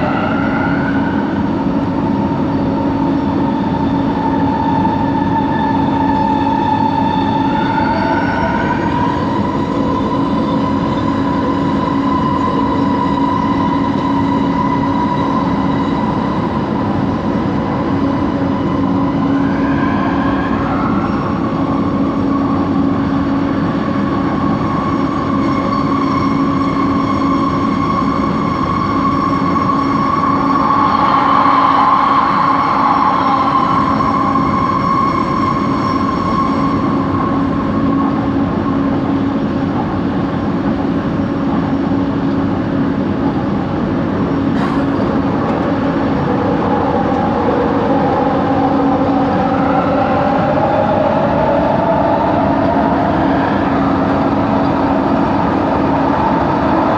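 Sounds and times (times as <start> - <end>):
steady train hum: 0.0 - 56.9.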